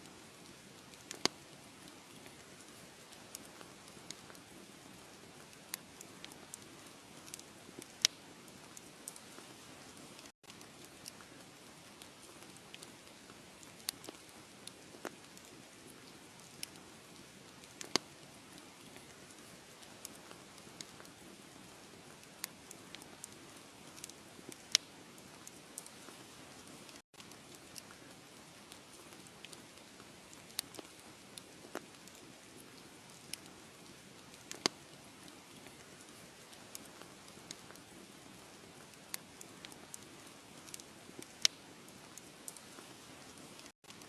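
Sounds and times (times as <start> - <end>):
wood fire crackling and popping: 0.0 - 44.0.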